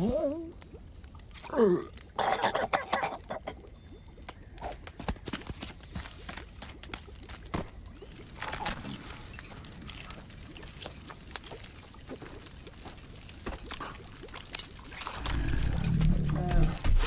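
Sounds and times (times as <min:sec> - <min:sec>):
campfire crackling: 0:00.2 - 0:17.0.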